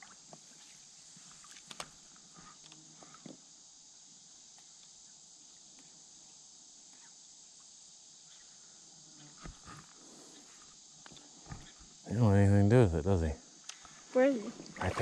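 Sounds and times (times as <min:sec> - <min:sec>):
high-pitched insect drone: 0:02.3 - 0:15.0.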